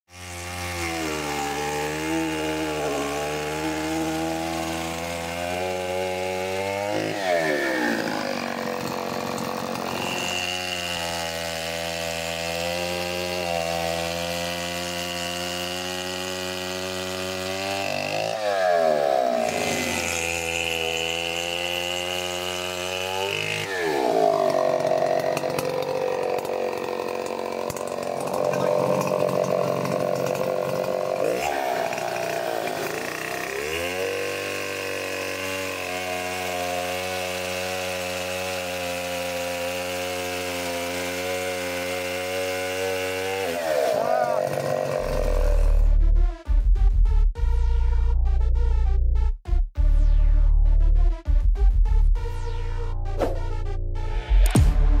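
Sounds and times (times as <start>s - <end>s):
chainsaw cutting log: 0.1s - 46.0s, 53.2s - 55.0s
chainsaw idling and revving: 0.1s - 46.1s, 54.1s - 55.0s.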